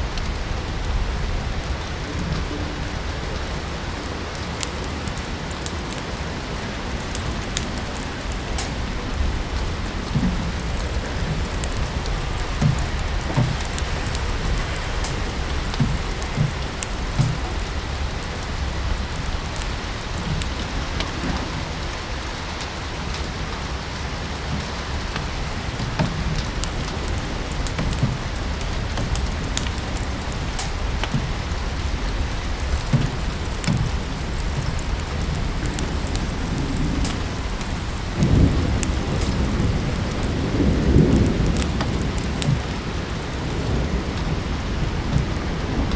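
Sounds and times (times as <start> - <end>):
steady rain falling: 0.0 - 45.9
wood fire crackling: 0.0 - 45.9.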